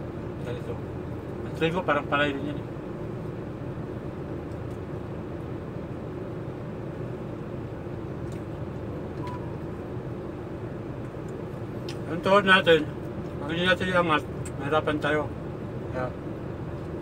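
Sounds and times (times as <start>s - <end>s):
vehicle idling with air conditioning: 0.0s - 17.0s.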